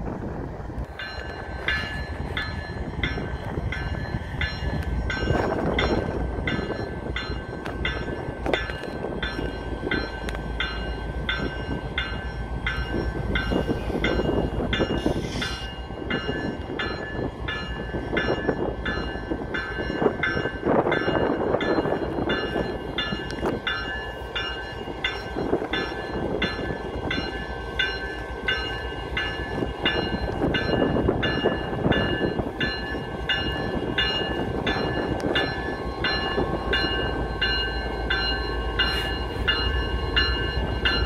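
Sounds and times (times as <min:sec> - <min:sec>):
diesel locomotive rumble: 0:00.0 - 0:41.0
locomotive bell ringing: 0:00.9 - 0:41.0.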